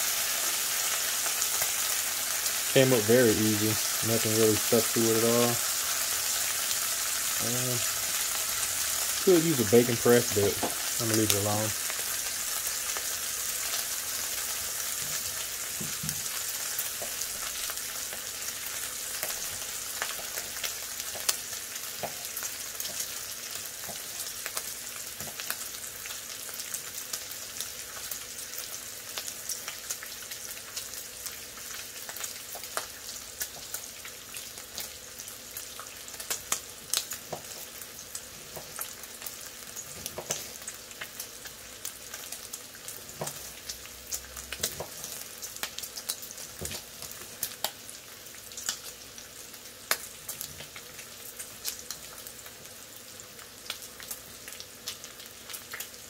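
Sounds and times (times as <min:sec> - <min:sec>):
bacon sizzling with crackling pops: 0:00.0 - 0:56.0.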